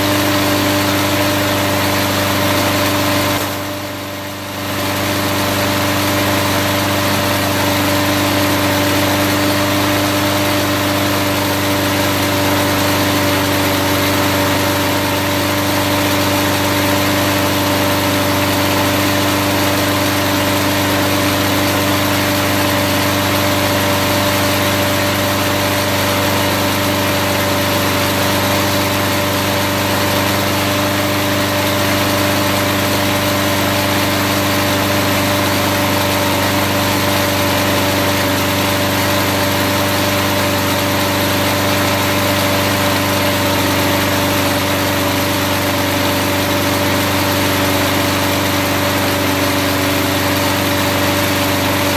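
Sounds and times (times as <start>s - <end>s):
lawn mower engine running: 0.0s - 51.9s.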